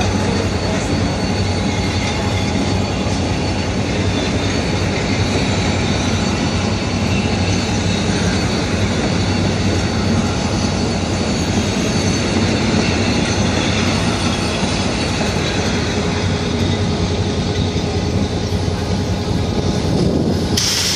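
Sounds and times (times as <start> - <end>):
clickety-clack of rails: 0.0 - 20.9
high wheel squeal: 0.0 - 20.9
train wheels rumbling: 0.0 - 20.9.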